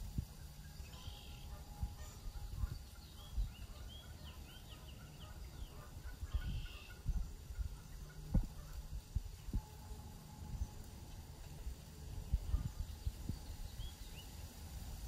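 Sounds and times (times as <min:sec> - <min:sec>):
buzzy bird calls: 0:00.0 - 0:14.8
birds chirping: 0:00.0 - 0:15.0
wind rumble on microphone: 0:00.0 - 0:15.0.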